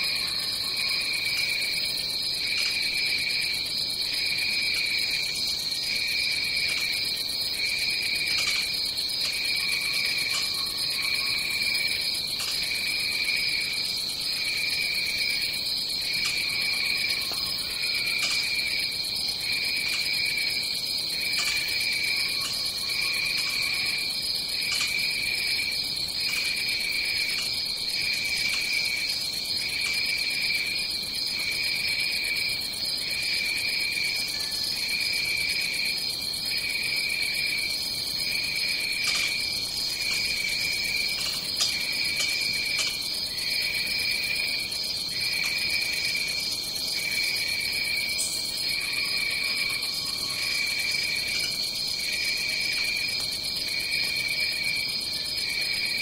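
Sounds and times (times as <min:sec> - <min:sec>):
high-pitched insect trill: 0:00.0 - 0:56.0.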